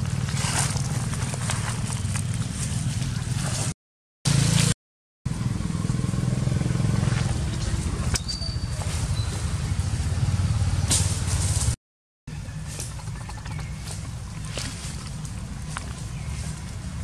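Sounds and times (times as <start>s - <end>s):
low outdoor rumble: 0.0s - 3.7s, 5.3s - 17.0s.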